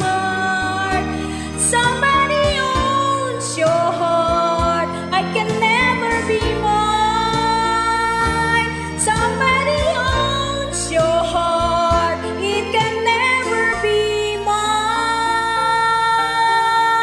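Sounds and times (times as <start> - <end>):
instrumental ballad backing track: 0.0 - 17.0.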